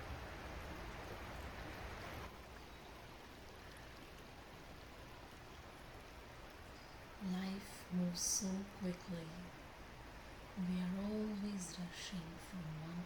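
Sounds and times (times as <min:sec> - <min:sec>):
flowing stream water: 0:00.0 - 0:13.0.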